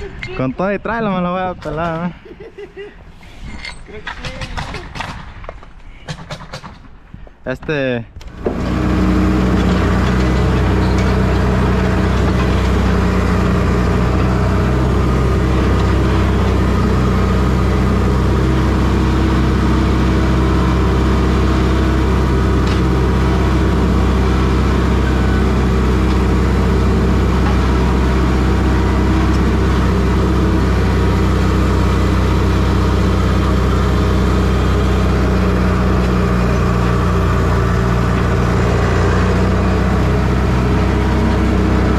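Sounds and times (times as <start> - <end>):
engine droning: 8.2 - 41.9.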